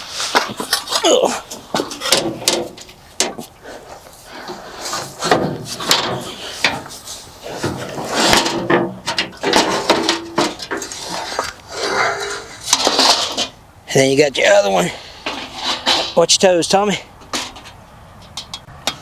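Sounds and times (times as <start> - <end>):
hands clicking and scraping parts: 0.0 - 13.6, 17.2 - 19.0.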